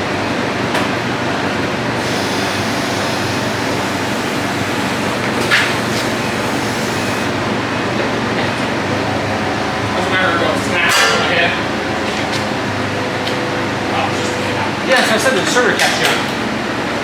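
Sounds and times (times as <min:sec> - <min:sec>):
machine running steadily: 0:00.0 - 0:17.0.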